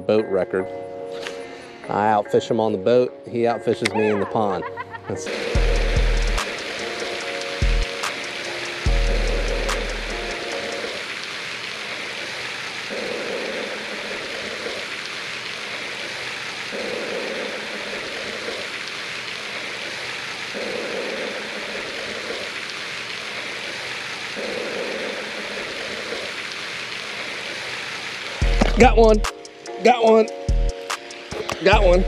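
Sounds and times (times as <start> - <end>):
fountain spraying water: 4.0 - 32.0.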